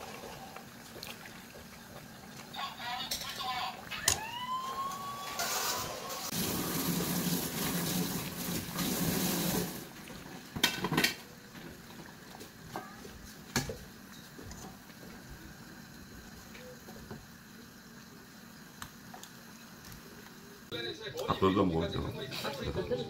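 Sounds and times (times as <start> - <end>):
soup boiling in a pot: 0.0 - 20.7.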